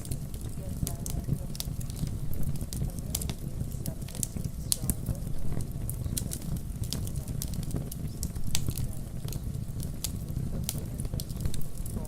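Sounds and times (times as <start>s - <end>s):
rain: 0.0s - 12.0s
wood fire crackling: 0.0s - 12.0s.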